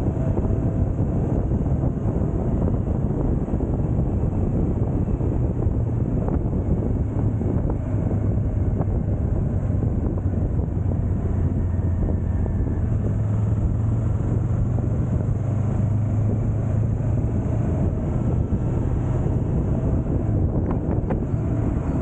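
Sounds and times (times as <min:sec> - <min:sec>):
motorcycle engine cruising: 0:00.0 - 0:22.0
wind rushing across microphone: 0:00.0 - 0:22.0.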